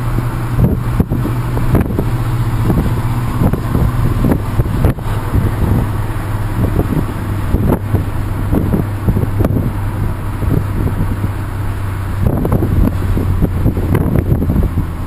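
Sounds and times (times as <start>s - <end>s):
van engine and road drone: 0.0s - 15.0s
wind buffeting microphone: 0.0s - 15.0s.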